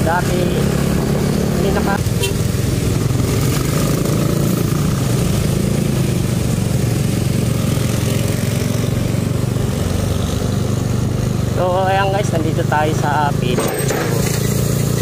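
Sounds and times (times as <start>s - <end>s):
other motorcycles: 0.0s - 15.0s
scooter engine running: 0.0s - 15.0s.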